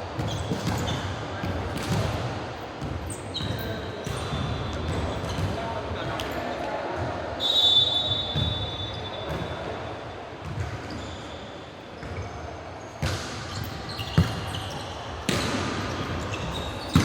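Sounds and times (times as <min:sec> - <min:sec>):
sneakers squeaking on court: 0:00.2 - 0:02.2, 0:02.8 - 0:06.4, 0:07.4 - 0:09.7, 0:10.4 - 0:17.0.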